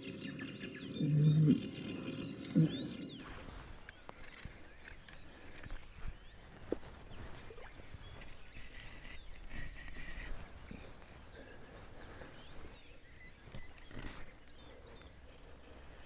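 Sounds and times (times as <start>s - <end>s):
birds calling and chirping: 0.0s - 16.0s.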